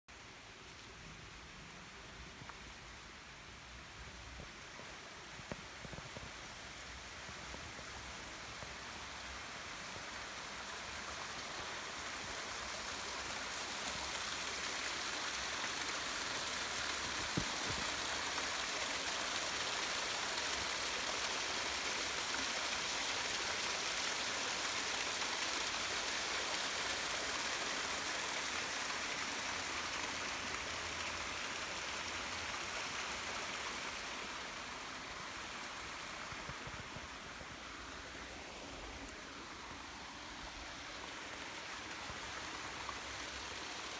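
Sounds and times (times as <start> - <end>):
waterfall splashing over rocks: 4.5 - 43.9.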